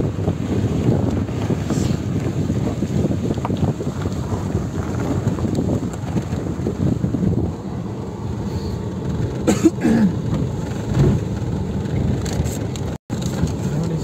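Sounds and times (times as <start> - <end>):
car road rumble: 0.0 - 14.0.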